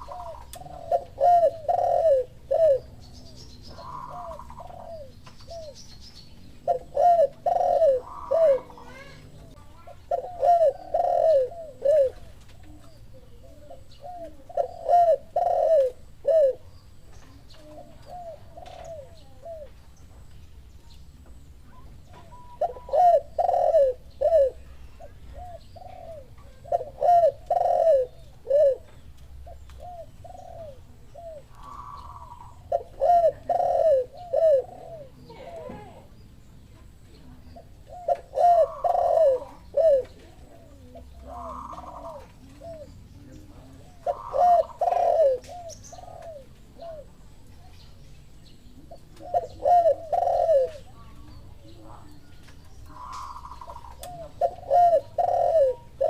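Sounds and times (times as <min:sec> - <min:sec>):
doves cooing: 0:00.0 - 0:20.0, 0:21.1 - 0:56.0.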